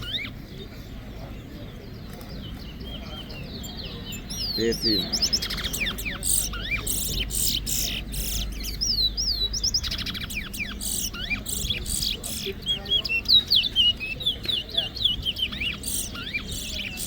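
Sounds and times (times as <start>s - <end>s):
finches singing: 0.0s - 17.0s
buzzy bird trills: 2.0s - 17.0s.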